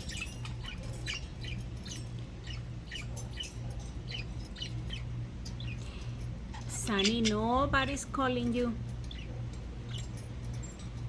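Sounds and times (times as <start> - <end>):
budgerigars chirping and squawking: 0.0 - 10.8
steady low hum: 0.0 - 11.0.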